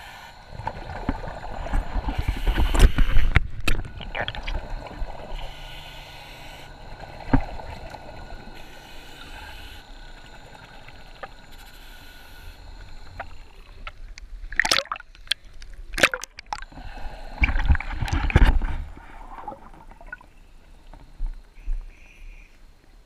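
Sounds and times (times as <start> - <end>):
underwater bubbling: 0.0 - 21.5.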